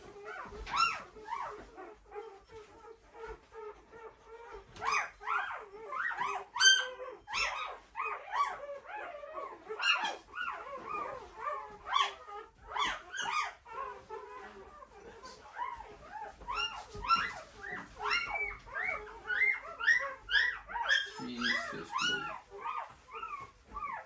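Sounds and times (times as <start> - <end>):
puppies crying and squealing: 0.0 - 24.0.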